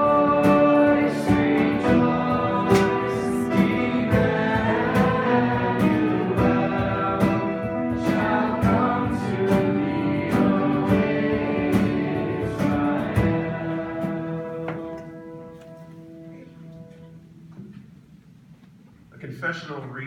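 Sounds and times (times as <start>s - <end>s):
worship song with guitar: 0.0s - 17.2s.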